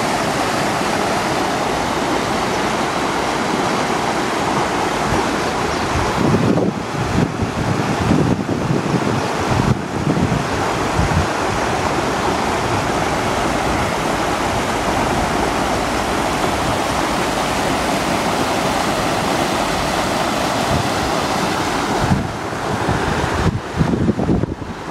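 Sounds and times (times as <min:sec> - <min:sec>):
water rushing: 0:00.0 - 0:24.9
wind buffeting microphone: 0:00.0 - 0:24.9.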